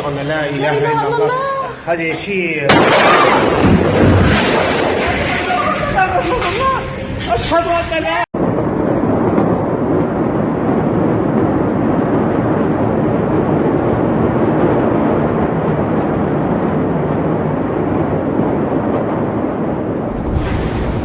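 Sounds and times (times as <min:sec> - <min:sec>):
loud rumbling rush: 0:00.0 - 0:21.0.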